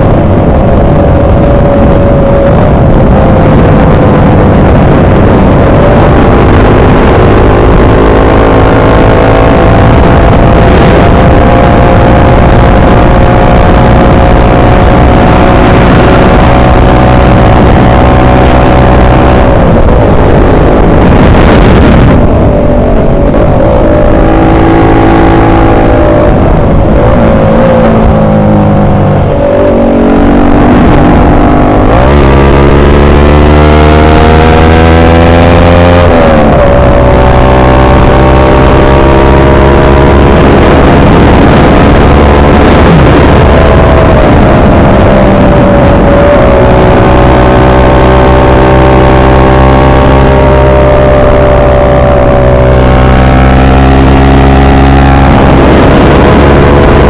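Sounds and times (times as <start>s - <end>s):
heavy wind noise: 0.0s - 57.0s
motorcycle engine running: 0.0s - 57.0s.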